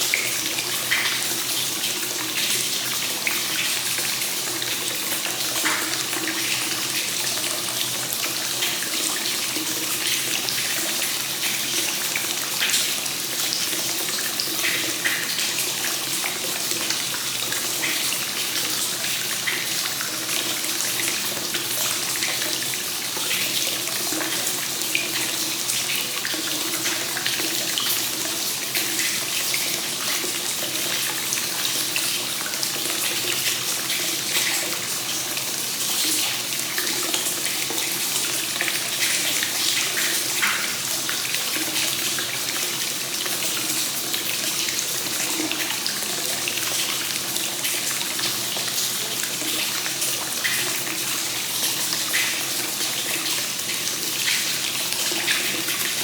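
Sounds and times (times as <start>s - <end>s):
hot spring water pouring into bath: 0.0s - 56.0s.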